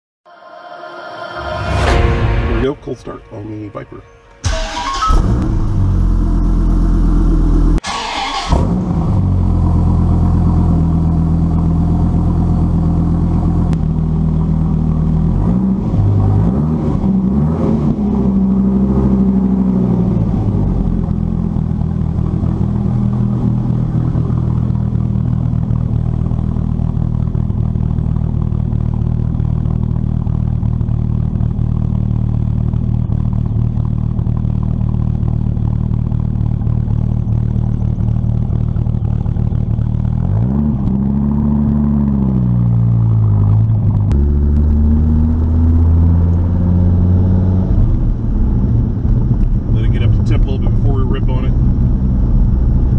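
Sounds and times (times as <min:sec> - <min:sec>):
car engine idling and revving: 0:04.4 - 0:52.9
engine pulling car from cabin: 0:04.4 - 0:52.9.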